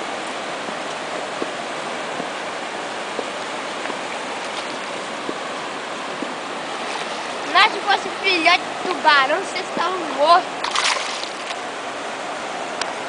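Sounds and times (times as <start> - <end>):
flowing river water: 0.0 - 13.0.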